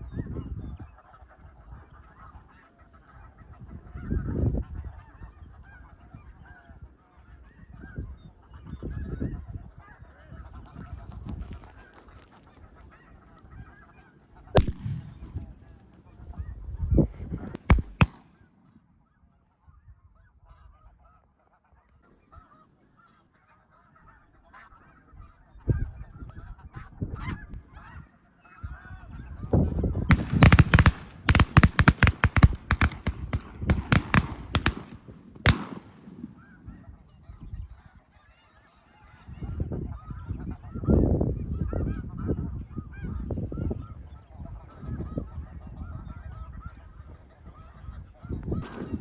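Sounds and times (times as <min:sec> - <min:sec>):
snow geese honking: 0:00.1 - 0:34.9, 0:35.5 - 0:49.0.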